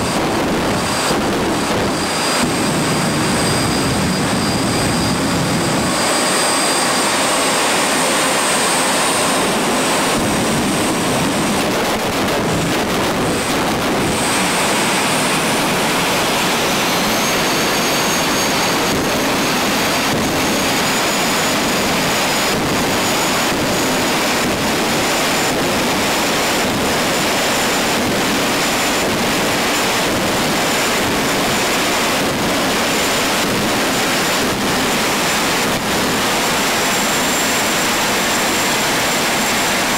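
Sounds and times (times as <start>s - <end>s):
jet turbine engines roaring: 0.0s - 39.9s.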